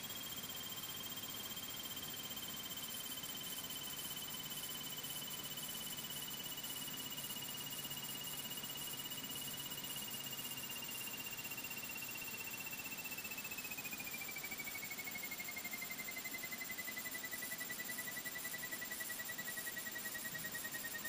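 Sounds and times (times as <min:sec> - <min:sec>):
high-pitched electrical whine: 0:00.0 - 0:21.0.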